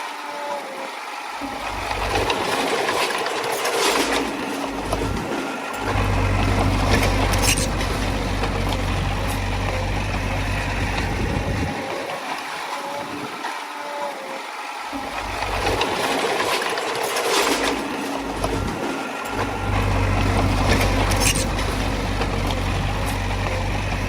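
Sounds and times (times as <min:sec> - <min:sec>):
broad mechanical noise: 0:00.0 - 0:24.0
bulldozer diesel engine rumble: 0:01.5 - 0:11.9, 0:15.0 - 0:24.0.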